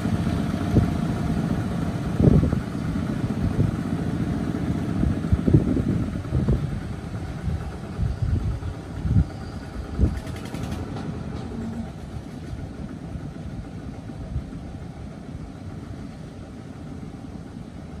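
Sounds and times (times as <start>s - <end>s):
tractor engines running: 0.0s - 18.0s.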